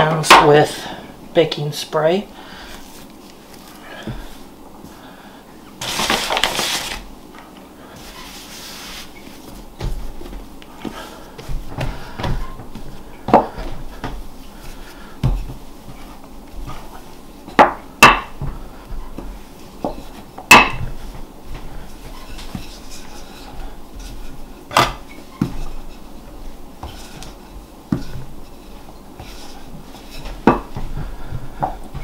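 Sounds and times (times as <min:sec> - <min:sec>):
hands working dough: 0:02.5 - 0:32.0.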